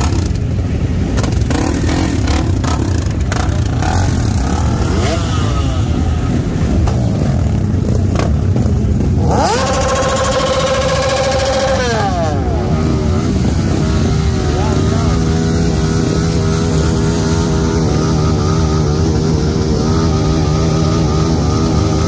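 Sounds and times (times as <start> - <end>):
motorcycle engines running: 0.0 - 22.0
motorcycle revving hard: 0.0 - 22.0.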